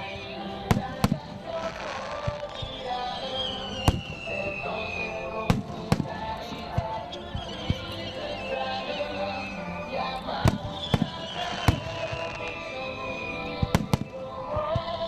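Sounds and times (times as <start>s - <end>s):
fireworks bursting with bangs: 0.0s - 15.0s
music with high melody: 0.0s - 15.0s.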